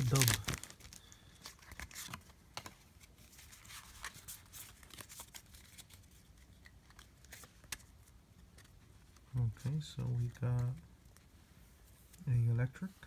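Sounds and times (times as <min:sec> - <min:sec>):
trading cards being handled: 0:00.0 - 0:13.0.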